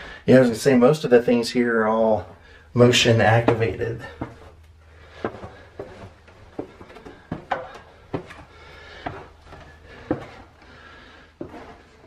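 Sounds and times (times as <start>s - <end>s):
footsteps going down stairs: 2.0s - 12.0s.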